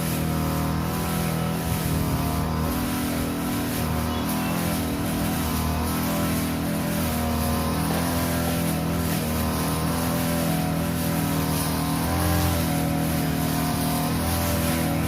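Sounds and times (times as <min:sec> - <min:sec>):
grass cutter engine running: 0:00.0 - 0:15.0.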